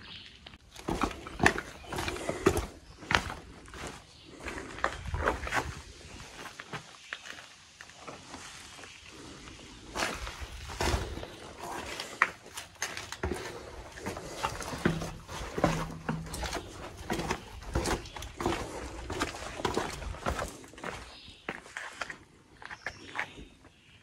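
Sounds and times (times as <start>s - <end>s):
footsteps on stone steps: 0.4s - 8.9s, 9.8s - 23.6s.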